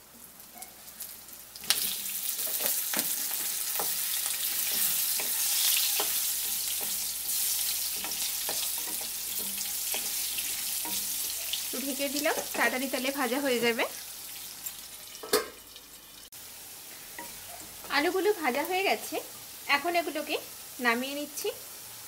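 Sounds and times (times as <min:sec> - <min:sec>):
potatoes sizzling in hot oil: 0:00.0 - 0:22.0.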